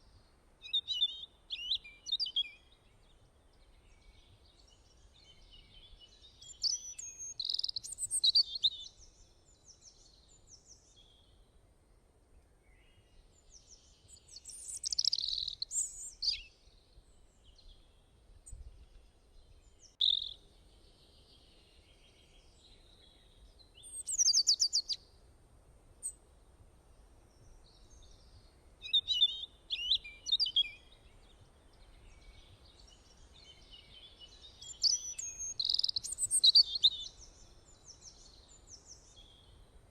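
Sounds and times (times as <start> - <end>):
songbirds chirping and singing: 0.7 - 11.4, 13.0 - 25.0, 27.3 - 39.6.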